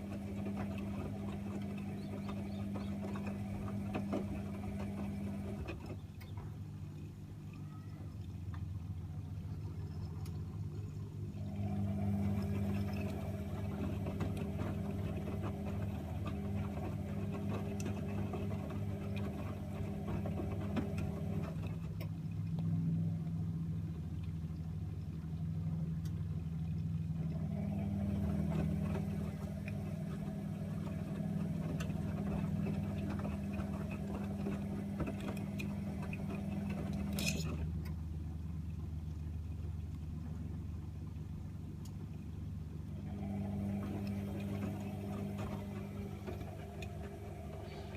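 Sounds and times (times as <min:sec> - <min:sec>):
washing machine motor hum: 0:00.0 - 0:47.9.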